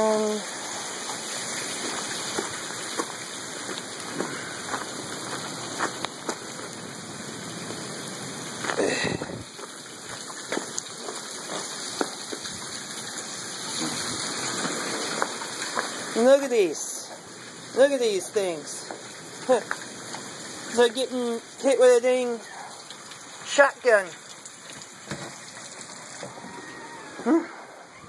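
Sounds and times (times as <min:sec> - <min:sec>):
hail and rain hissing: 0:00.0 - 0:28.0
hailstones clicking: 0:00.1 - 0:06.9, 0:08.5 - 0:26.4.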